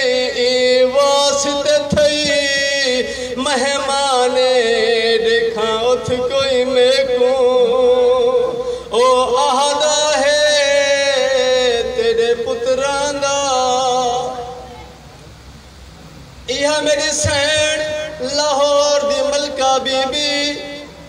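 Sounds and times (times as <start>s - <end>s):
man chanting through a microphone: 0.0s - 14.9s, 16.4s - 21.0s.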